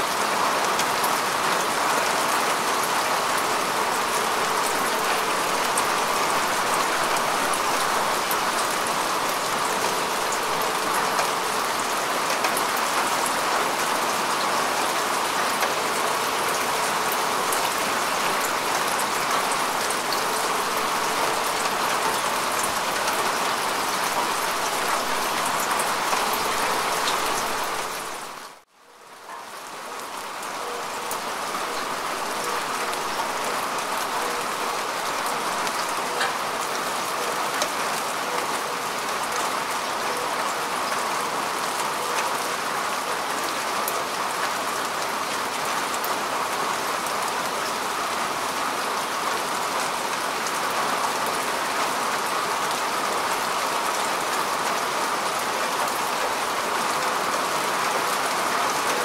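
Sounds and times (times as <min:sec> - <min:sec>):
rain falling on grass: 0:00.0 - 0:59.0.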